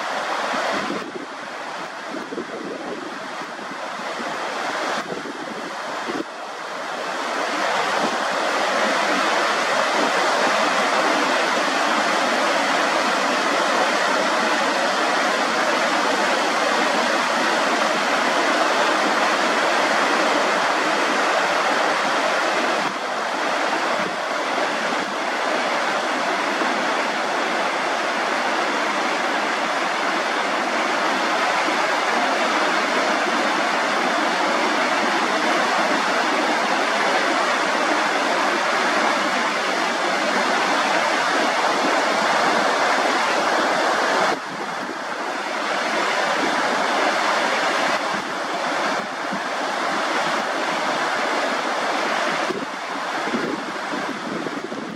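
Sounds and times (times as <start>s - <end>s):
river water rushing over rocks: 0.0s - 54.9s.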